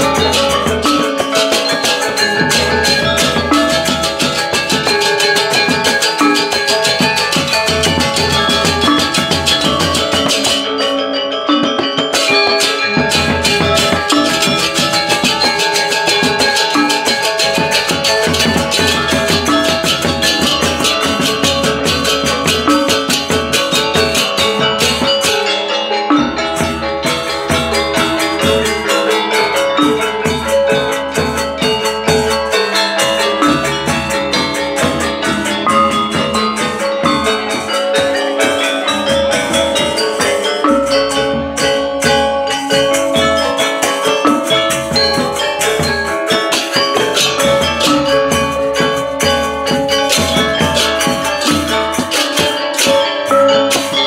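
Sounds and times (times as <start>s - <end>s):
gamelan gong ensemble: 0.0s - 54.0s
hand cymbals clashing: 0.0s - 54.0s
metallophones struck with mallets: 0.0s - 54.0s.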